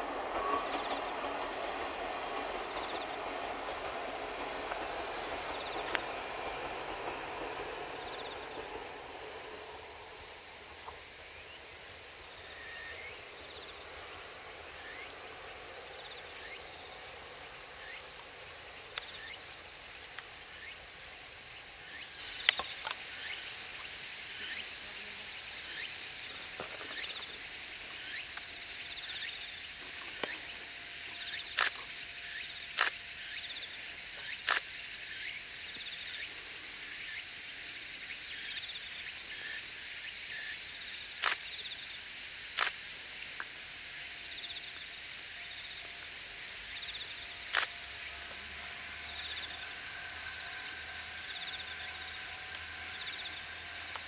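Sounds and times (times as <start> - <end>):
diesel railcar running: 0.0 - 54.0
high-pitched insect drone: 0.0 - 54.0.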